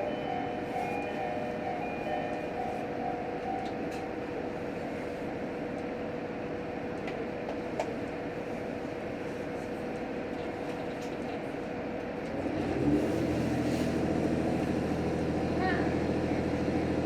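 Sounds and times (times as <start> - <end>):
railcar engine hum: 0.0 - 17.0.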